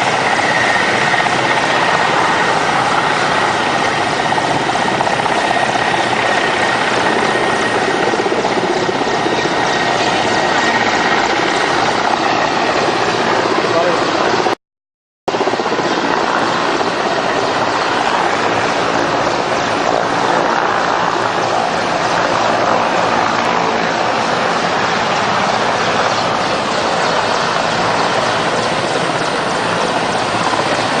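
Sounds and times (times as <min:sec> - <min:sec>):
helicopter engines and rotor: 0:00.0 - 0:14.6, 0:15.3 - 0:31.0.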